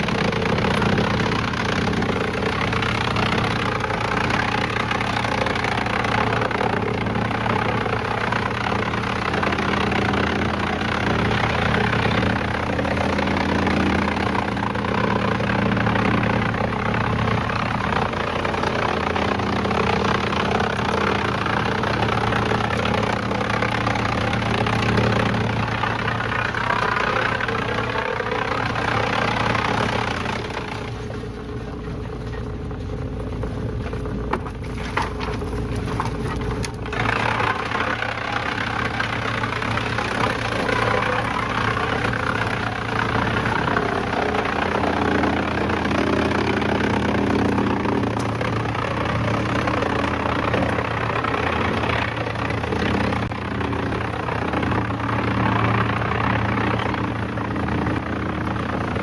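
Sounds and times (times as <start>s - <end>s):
engine drone: 0.0s - 59.0s
machinery grinding noise: 0.0s - 59.0s.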